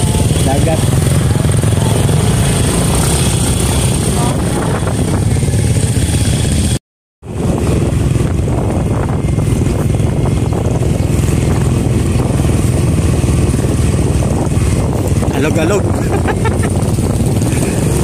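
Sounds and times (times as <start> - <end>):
motorcycle engine hum: 0.0 - 18.0
road and wind noise: 0.0 - 18.0.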